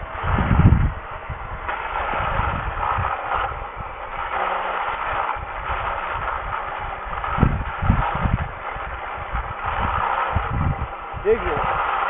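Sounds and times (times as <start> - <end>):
lawn edger motor hum: 0.0 - 12.0
edger blade rasping through soil: 1.6 - 12.0.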